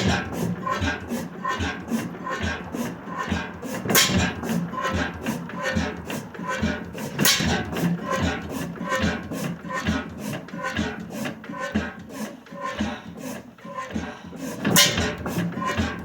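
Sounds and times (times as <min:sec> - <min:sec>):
gas engine exhaust beat: 0:00.0 - 0:16.0
mechanical clatter: 0:00.0 - 0:16.0.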